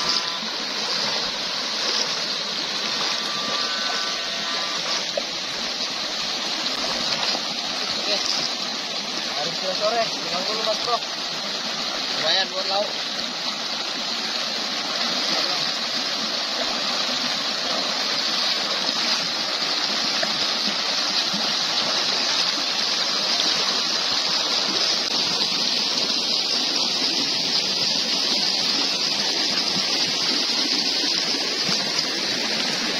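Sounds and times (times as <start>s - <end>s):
stream rushing over stones: 0.0s - 32.9s.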